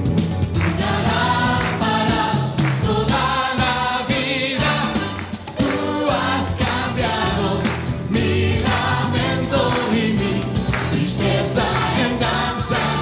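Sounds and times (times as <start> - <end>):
bass: 0.0 - 13.0
drums: 0.0 - 13.0
jingling hand percussion: 0.2 - 13.0
choir singing gospel song: 0.6 - 13.0.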